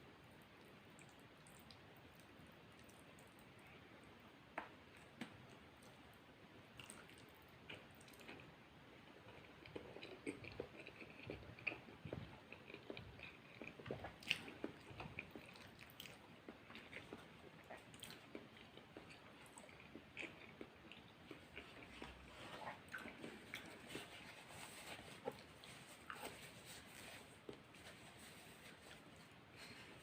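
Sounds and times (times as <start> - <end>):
person chewing spaghetti: 4.6 - 30.0.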